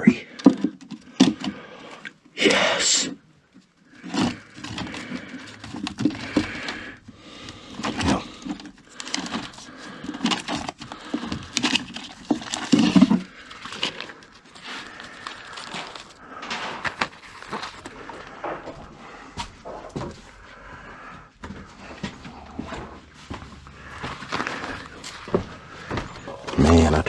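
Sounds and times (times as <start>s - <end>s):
records knocking and scraping: 0.0s - 2.3s, 3.3s - 27.0s
paper sleeves rustling: 2.4s - 27.0s.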